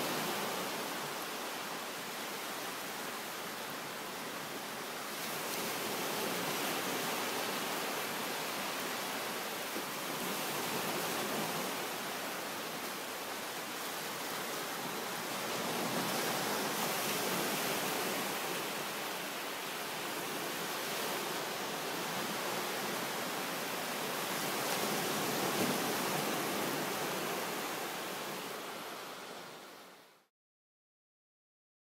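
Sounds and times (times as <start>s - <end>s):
small waves breaking on a beach: 0.0s - 30.3s.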